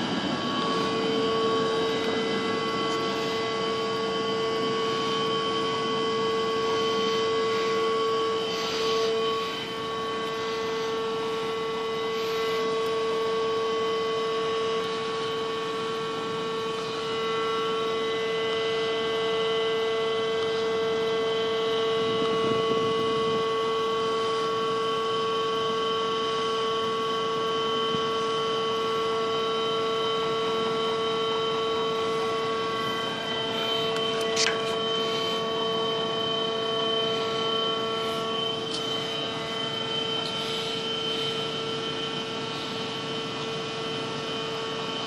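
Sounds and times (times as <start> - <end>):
rough mechanical noise: 0.0 - 25.4, 30.6 - 44.1
crane machinery hum and whine: 0.0 - 45.0.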